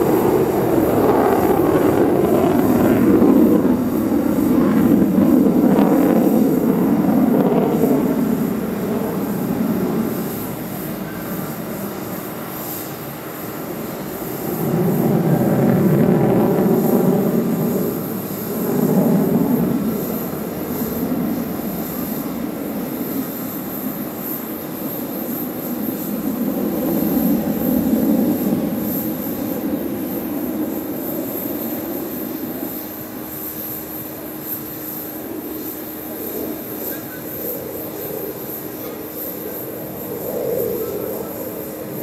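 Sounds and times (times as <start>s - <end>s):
jet engines roaring overhead: 0.0s - 42.0s.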